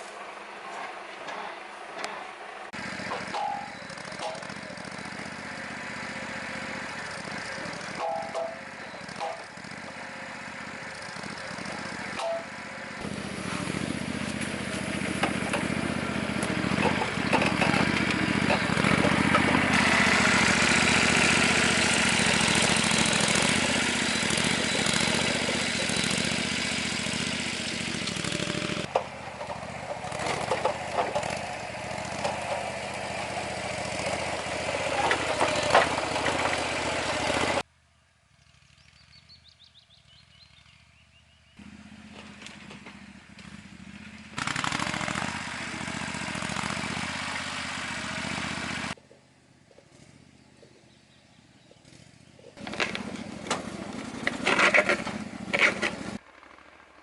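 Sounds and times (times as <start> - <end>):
small engine running: 2.5 - 37.7, 38.3 - 49.1, 49.7 - 57.0.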